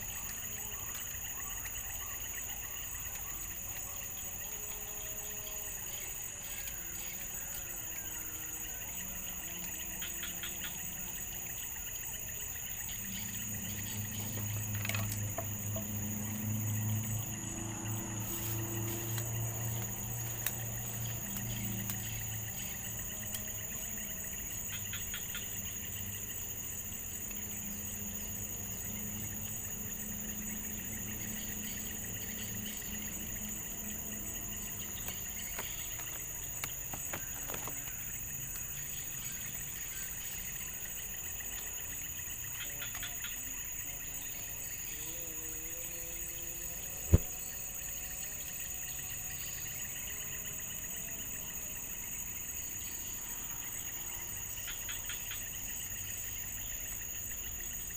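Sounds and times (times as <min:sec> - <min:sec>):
insects chorus: 0:00.0 - 0:57.9.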